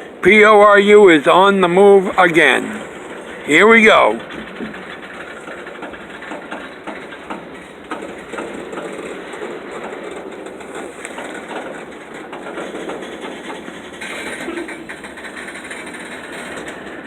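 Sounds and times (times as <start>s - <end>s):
train wheels clicking on rails: 0.0s - 17.0s.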